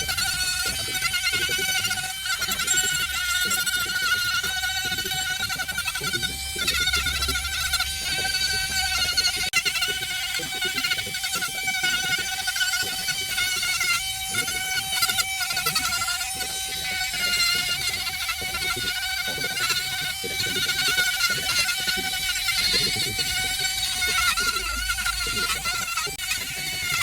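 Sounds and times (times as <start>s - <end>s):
chainsaw carving wood: 0.0s - 27.0s.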